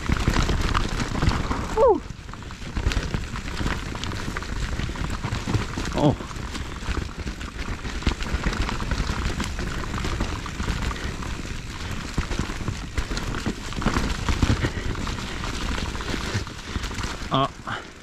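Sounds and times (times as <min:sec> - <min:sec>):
bike clattering over rocks: 0:00.0 - 0:17.8.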